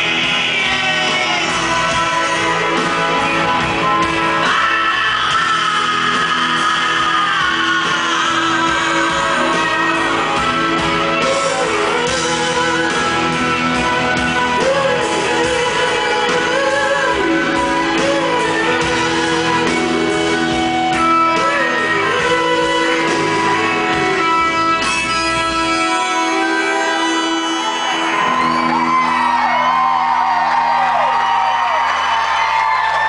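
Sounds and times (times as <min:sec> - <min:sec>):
person singing: 0:00.0 - 0:31.2
live rock band: 0:00.0 - 0:33.0.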